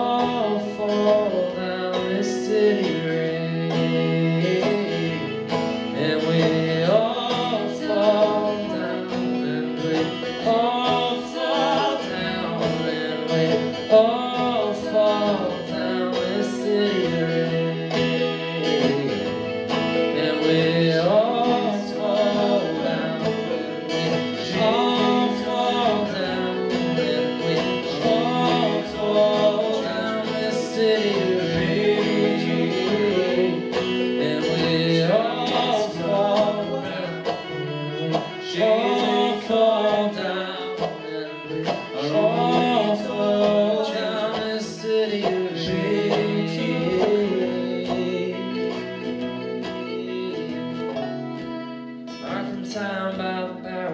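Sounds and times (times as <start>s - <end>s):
acoustic guitar strummed chords: 0.0s - 53.9s
banjo: 0.0s - 53.9s
fiddle melody: 0.0s - 53.9s.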